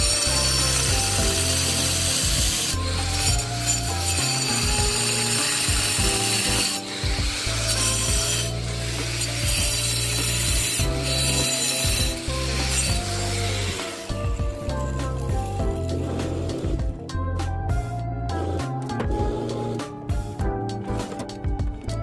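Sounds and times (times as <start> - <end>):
tool grinding stone: 0.0 - 16.8, 18.3 - 20.0
background music: 0.0 - 22.0.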